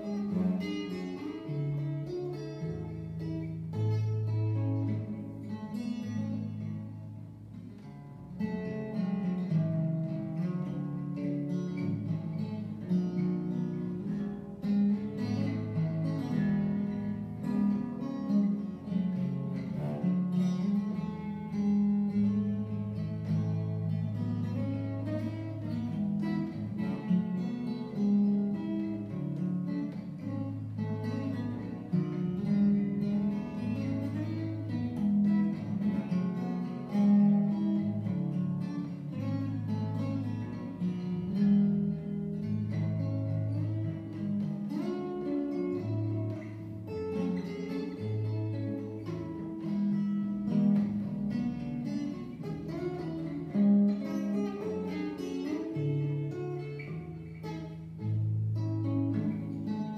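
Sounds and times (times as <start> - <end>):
fingerstyle acoustic guitar: 0.0 - 59.9.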